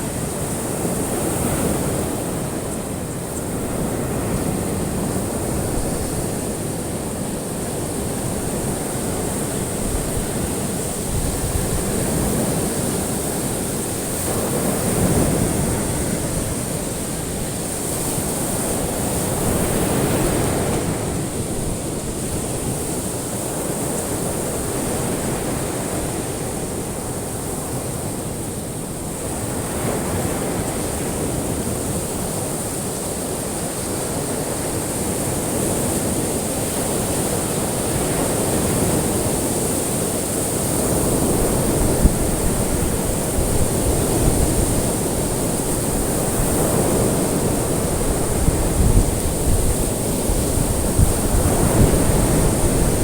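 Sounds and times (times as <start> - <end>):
ocean waves washing ashore: 0.0 - 53.0.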